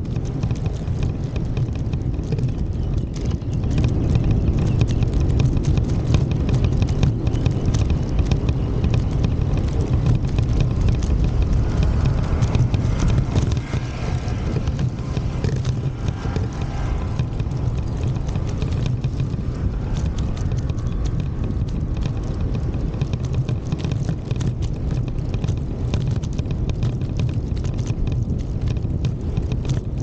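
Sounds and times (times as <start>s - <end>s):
wind rumble on microphone: 0.0s - 30.0s
footsteps clicking: 0.1s - 30.0s.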